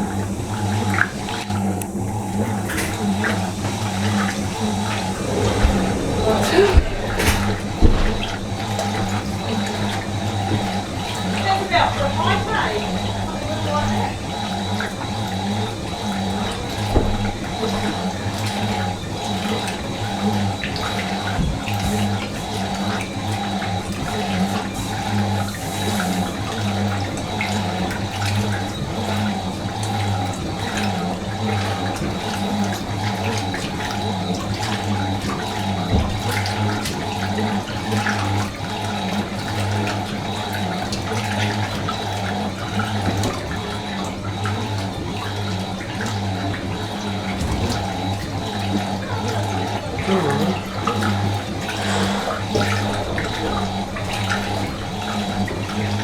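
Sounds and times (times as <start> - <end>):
washing machine low hum: 0.0 - 56.0
water rushing in washing machine: 0.0 - 56.0.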